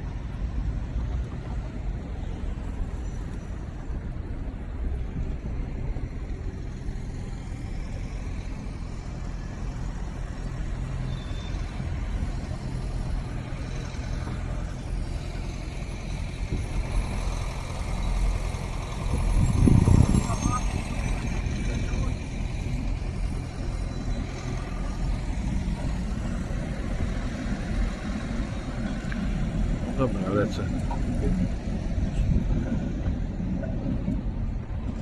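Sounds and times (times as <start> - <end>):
city street traffic rumble: 0.0 - 35.0.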